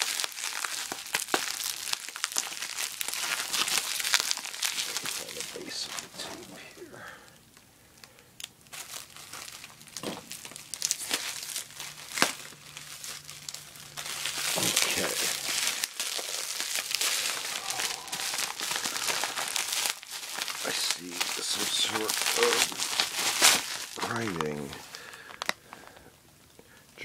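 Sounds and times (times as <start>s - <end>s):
plastic bag and bubble wrap crinkling: 0.0s - 27.0s.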